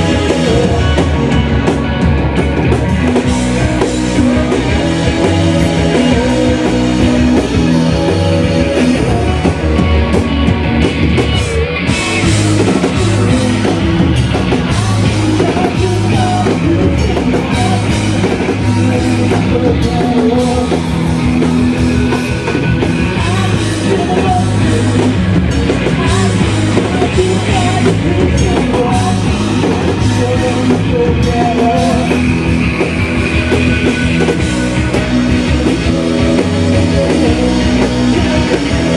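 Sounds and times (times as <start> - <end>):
distorted guitars: 0.0 - 38.9
rock drum kit: 0.0 - 38.9
vocals: 0.0 - 38.9.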